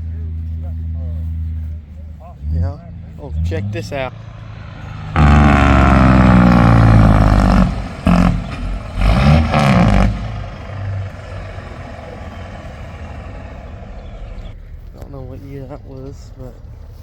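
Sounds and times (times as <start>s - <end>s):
tractor engine revving: 0.0s - 14.6s.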